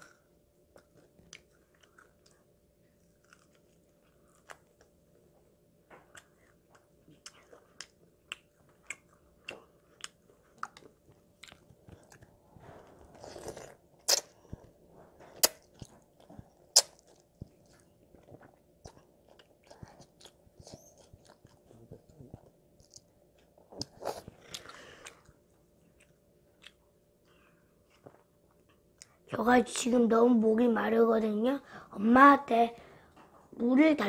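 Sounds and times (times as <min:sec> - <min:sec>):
child chewing with mouth smacks: 0:00.0 - 0:29.4.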